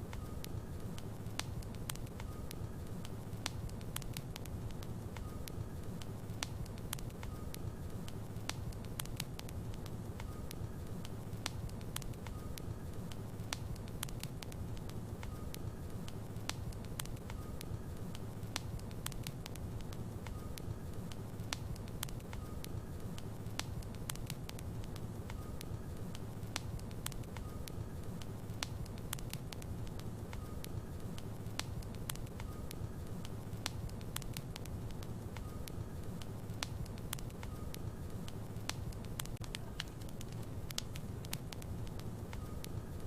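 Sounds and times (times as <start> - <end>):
wood crackling and popping: 0.0 - 43.0.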